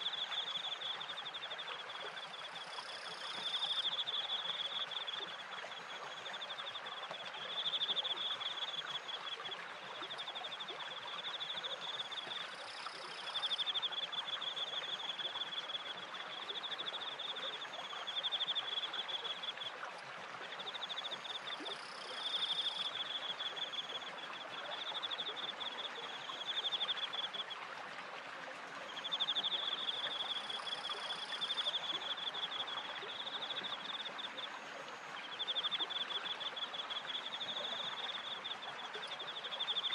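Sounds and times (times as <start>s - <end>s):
crickets chirping: 0.0s - 19.7s, 20.5s - 27.5s, 28.9s - 39.9s
stream water running: 0.0s - 39.9s.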